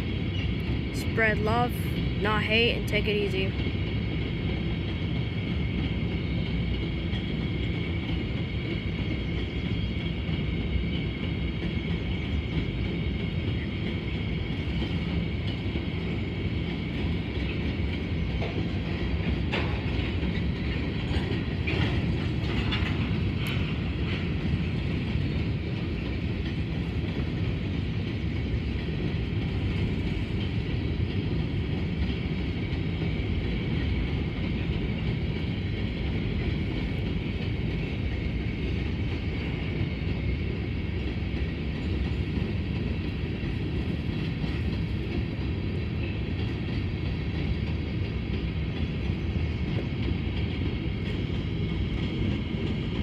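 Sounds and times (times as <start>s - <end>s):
train cars clanking: 0.0s - 53.0s
train wheels rumbling on rail: 0.0s - 53.0s.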